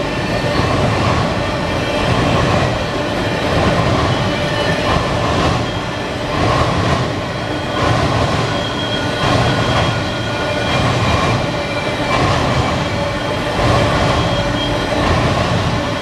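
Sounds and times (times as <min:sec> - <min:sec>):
rumble of railcars: 0:00.0 - 0:16.0
faint wheel squealing: 0:00.1 - 0:16.0.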